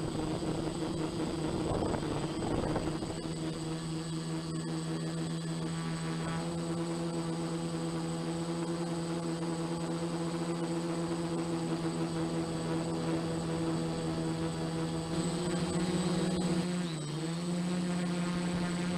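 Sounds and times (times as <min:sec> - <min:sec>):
drone propellers buzzing: 0:00.0 - 0:18.9.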